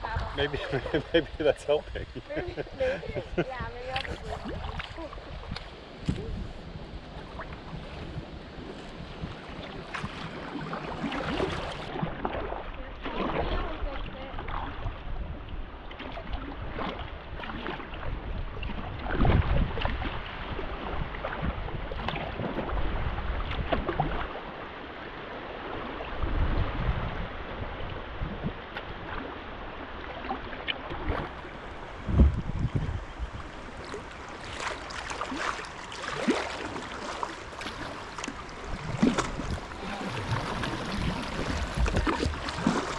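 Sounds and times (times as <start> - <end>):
wind rumble on microphone: 0.0 - 42.9
paddle splashing in water: 2.0 - 42.9.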